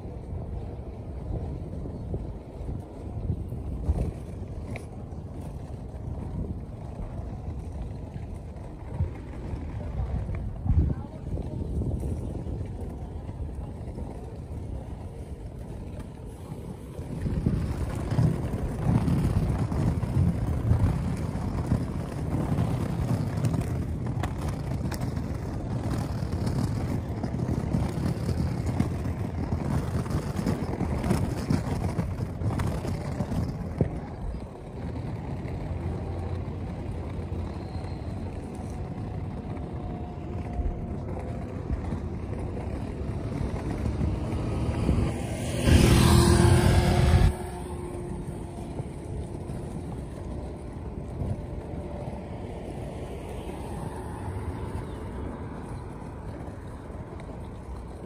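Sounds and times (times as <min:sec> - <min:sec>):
road traffic: 0:00.0 - 0:58.0
wind: 0:00.0 - 0:58.0.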